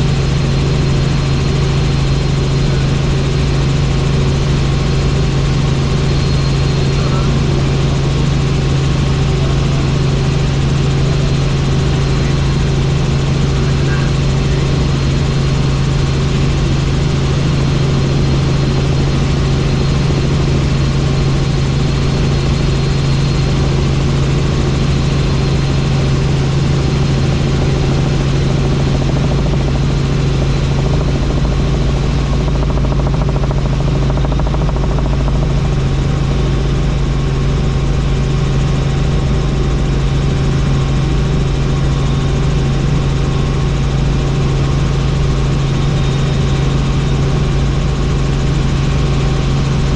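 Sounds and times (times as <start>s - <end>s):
helicopter engine and rotors: 0.0s - 49.9s.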